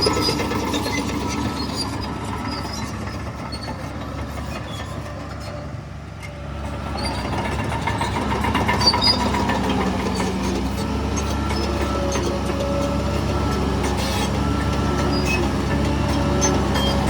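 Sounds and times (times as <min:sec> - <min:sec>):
heavy diesel machine revving: 0:00.0 - 0:17.0.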